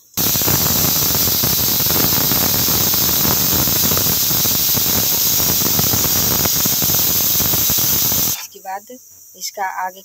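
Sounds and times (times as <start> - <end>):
pressure cooker hissing steam: 0.0 - 8.5.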